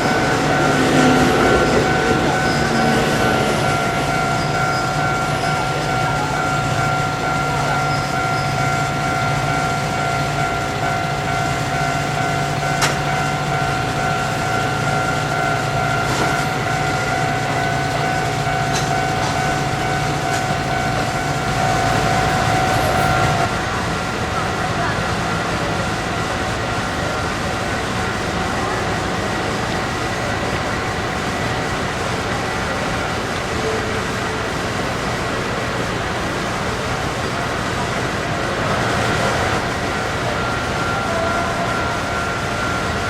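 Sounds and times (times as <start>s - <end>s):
railway crossing bell ringing: 0.0s - 43.0s
train rumbling: 0.0s - 43.0s.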